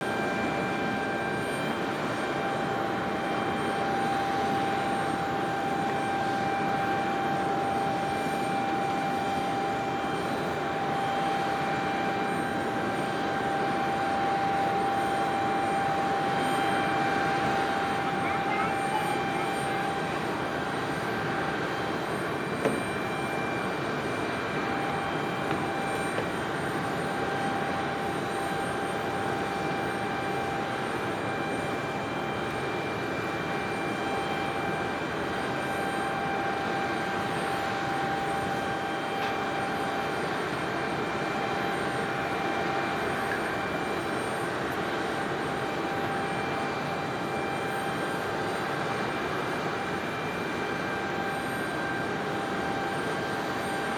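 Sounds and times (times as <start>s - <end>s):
aircraft turbine whine: 0.0s - 53.9s.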